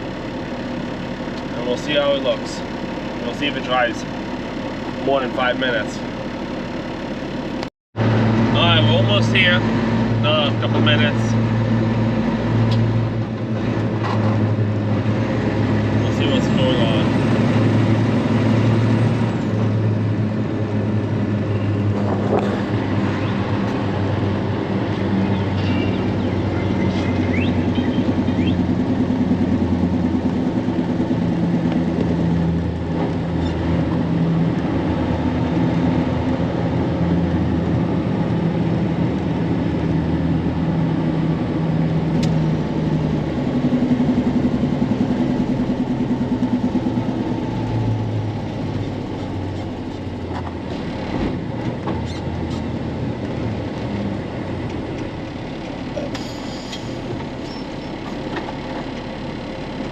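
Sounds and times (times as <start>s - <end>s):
road noise: 0.0s - 59.9s
vehicle engine: 0.0s - 59.9s.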